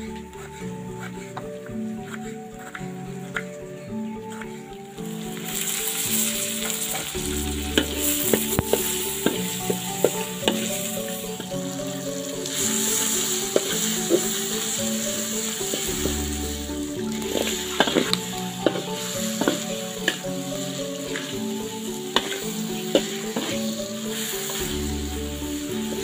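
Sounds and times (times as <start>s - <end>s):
spatula scraping and knocking wok: 0.0s - 26.0s
paste sizzling in hot oil: 4.9s - 26.0s.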